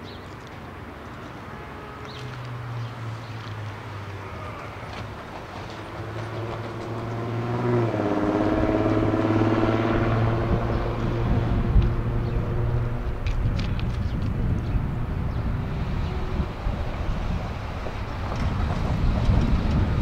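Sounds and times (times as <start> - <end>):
vehicle engine passing by: 2.1 - 20.0.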